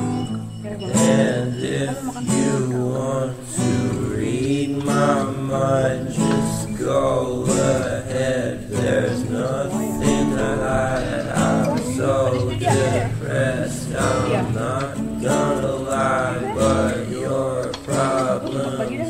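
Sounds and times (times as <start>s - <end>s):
song with acoustic guitar: 0.0s - 19.0s.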